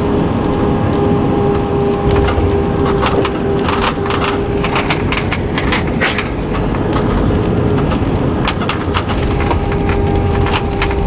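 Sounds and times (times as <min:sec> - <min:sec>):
aircraft cabin rumble and roar: 0:00.0 - 0:11.0
steady engine tone: 0:00.0 - 0:11.0
sharp rattles and clicks: 0:01.6 - 0:11.0.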